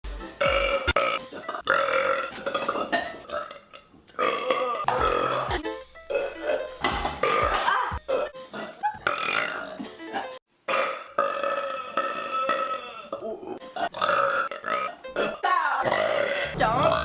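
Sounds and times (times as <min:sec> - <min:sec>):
person burping: 0:00.4 - 0:17.0.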